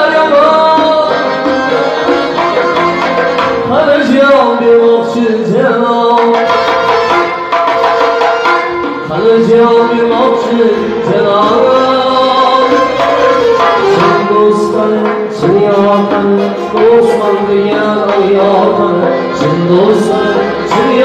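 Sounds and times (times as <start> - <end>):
man singing: 0.0 - 7.3, 7.9 - 21.0
accordion: 0.0 - 21.0
hand percussion: 0.0 - 21.0.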